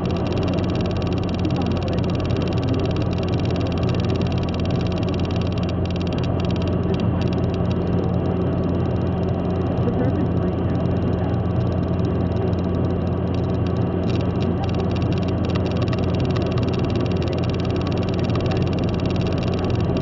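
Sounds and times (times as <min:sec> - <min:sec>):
car engine drone: 0:00.0 - 0:20.0.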